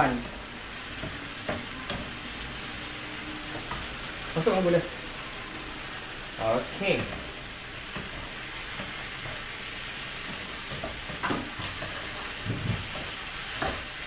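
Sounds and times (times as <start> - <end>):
pan stirring: 0.0 - 14.0
vegetables sizzling in a pan: 0.0 - 14.0.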